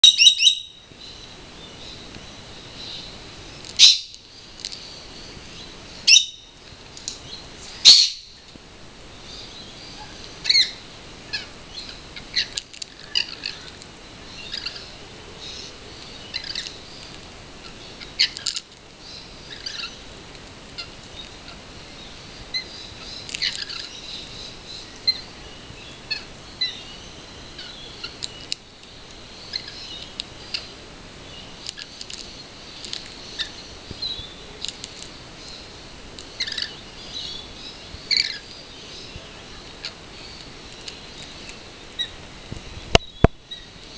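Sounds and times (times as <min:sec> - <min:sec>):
lorikeets calling harshly: 0:00.0 - 0:06.6, 0:07.2 - 0:08.4, 0:09.1 - 0:28.6, 0:29.2 - 0:34.6, 0:35.2 - 0:42.2.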